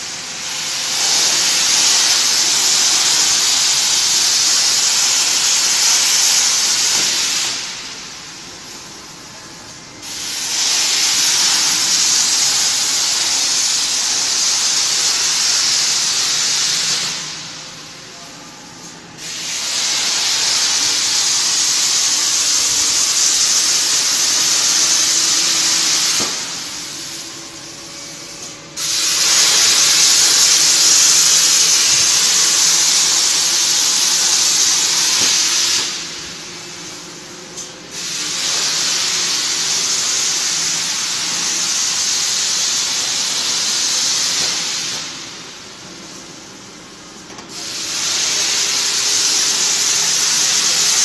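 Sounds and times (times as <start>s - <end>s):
plasma cutting torch hissing: 0.0s - 18.0s, 19.2s - 51.0s.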